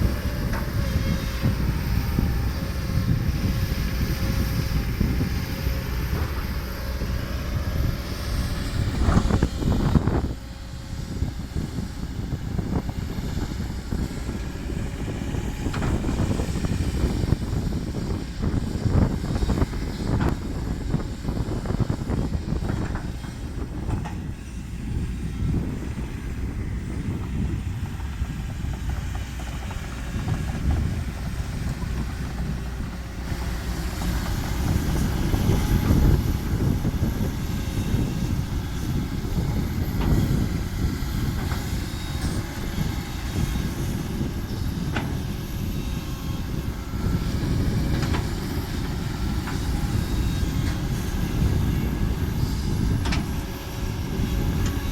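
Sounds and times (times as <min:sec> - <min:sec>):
diesel truck engine rumble: 0:00.0 - 0:54.9.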